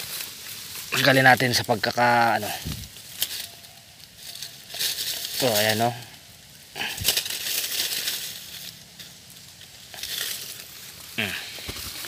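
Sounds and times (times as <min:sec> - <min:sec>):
dry leaf litter crunching: 0:00.0 - 0:12.0.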